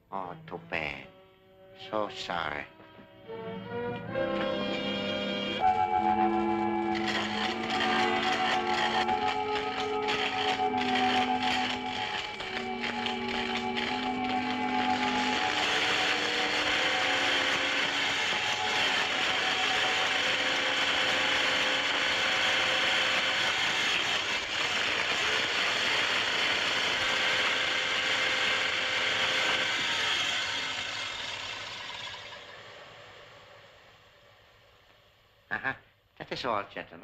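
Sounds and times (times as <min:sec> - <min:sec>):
dense mechanical machine noise: 0:04.7 - 0:34.3.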